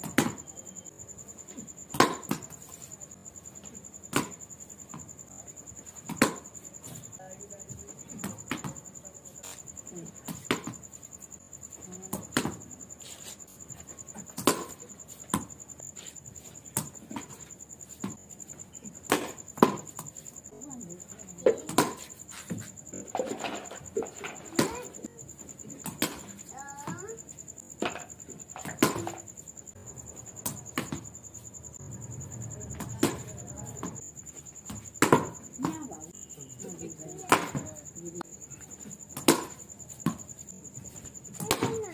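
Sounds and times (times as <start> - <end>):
insect chirping trill: 0.0 - 41.9.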